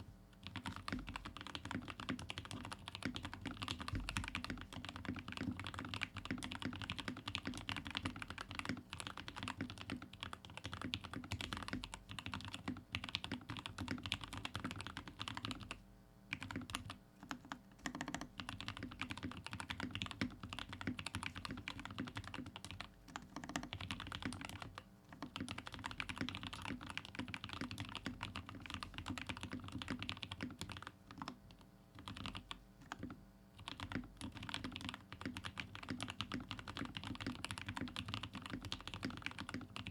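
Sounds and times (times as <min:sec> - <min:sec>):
mechanical keyboard typing: 0:00.4 - 0:39.9.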